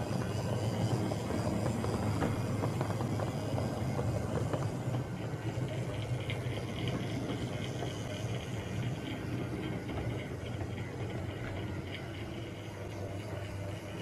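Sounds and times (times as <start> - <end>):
model train motor hum: 0.0 - 14.0
wheels clicking over rail joints: 0.0 - 14.0.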